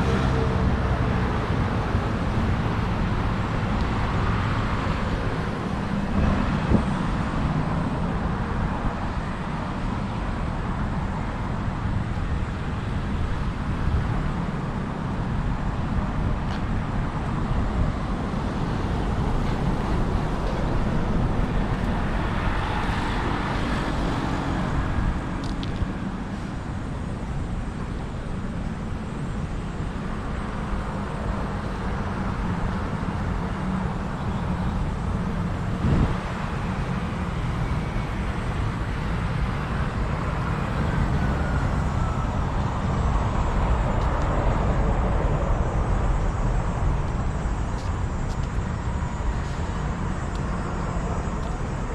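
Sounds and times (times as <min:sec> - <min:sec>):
road traffic rumble: 0:00.0 - 0:51.9
vehicles passing: 0:00.0 - 0:51.9.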